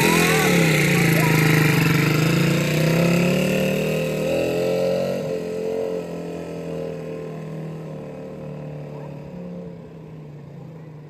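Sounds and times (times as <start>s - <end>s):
dirt bike engine riding away: 0.0s - 11.0s.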